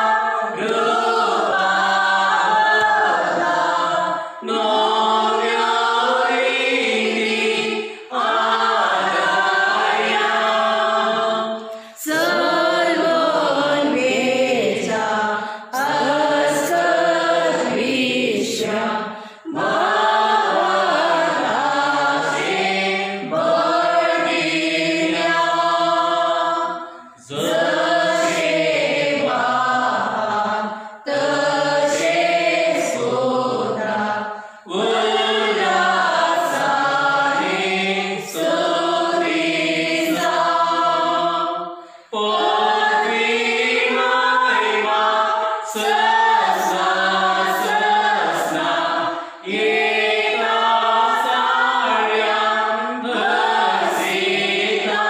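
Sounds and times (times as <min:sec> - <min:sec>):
group singing a hymn: 0:00.0 - 0:55.0.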